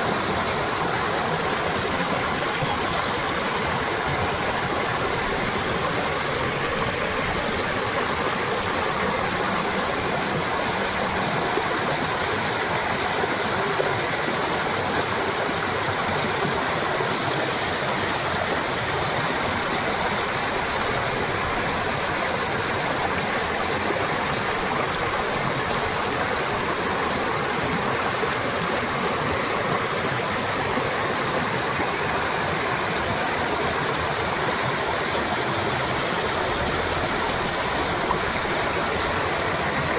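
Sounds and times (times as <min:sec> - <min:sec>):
water rushing from dam: 0:00.0 - 0:39.9.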